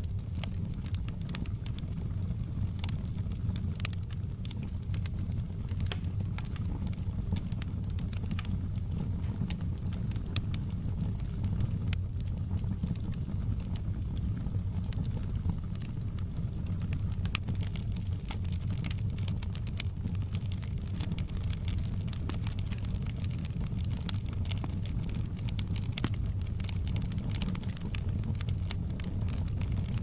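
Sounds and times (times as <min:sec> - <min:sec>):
fire crackling and popping: 0:00.0 - 0:30.0
low rumble of flames: 0:00.0 - 0:30.0.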